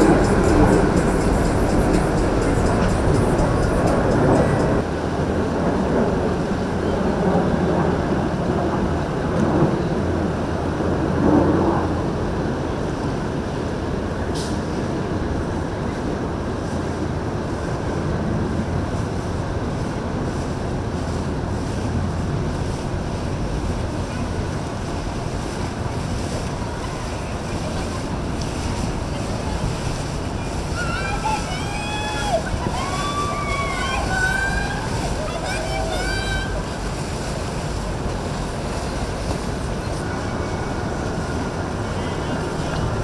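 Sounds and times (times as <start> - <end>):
boat engines running: 0.0 - 43.0
water wash: 0.0 - 43.0
wind buffeting microphone: 0.0 - 43.0.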